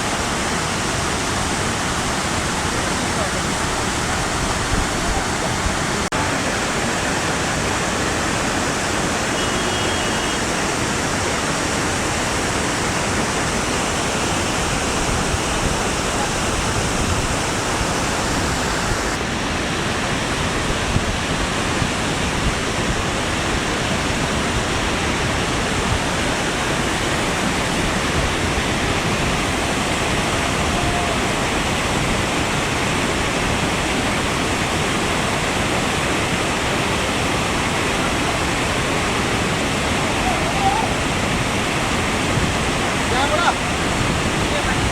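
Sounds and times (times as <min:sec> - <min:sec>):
waterfall crashing: 0:00.0 - 0:44.9.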